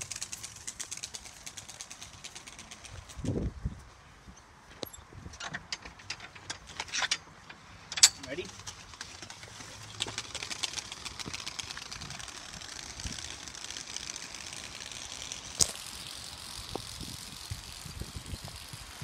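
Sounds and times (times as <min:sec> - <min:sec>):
playing cards flapping on bike spokes: 0:00.0 - 0:03.6, 0:05.6 - 0:19.0.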